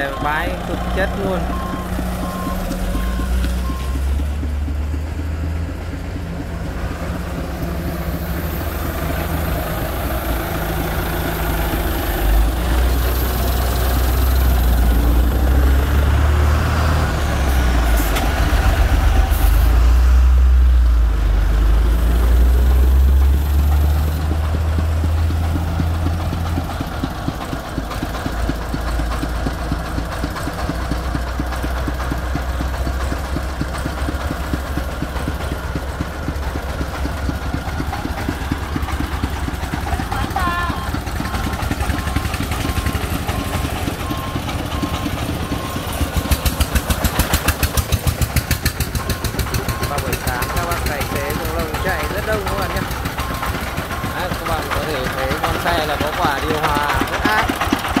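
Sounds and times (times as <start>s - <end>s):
forklift engine rumbling: 0.0s - 58.0s.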